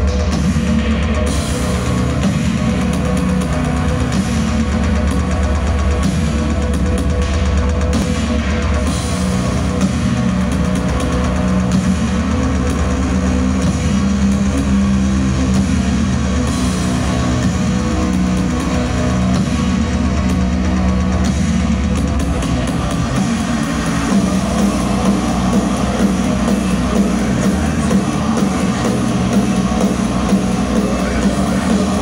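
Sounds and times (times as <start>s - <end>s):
live band playing loud music: 0.0s - 32.0s.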